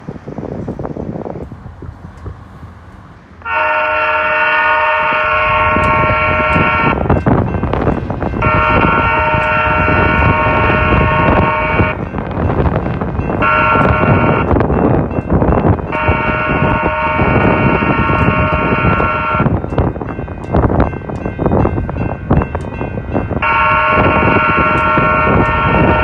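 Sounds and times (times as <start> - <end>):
wind buffeting microphone: 0.0 - 26.0
train horn blasts: 3.4 - 26.0.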